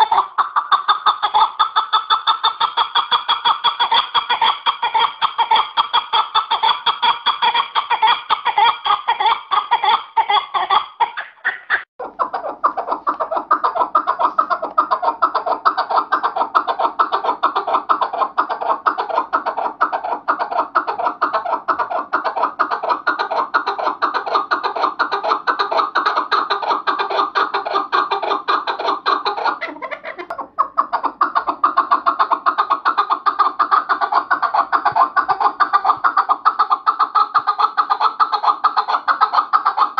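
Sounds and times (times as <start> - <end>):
partridge calling: 0.0 - 39.9.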